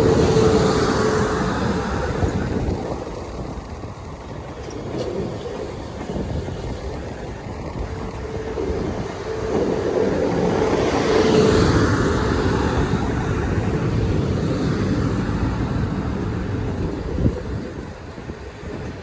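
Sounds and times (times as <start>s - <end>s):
electric train running slowly: 0.0s - 19.0s.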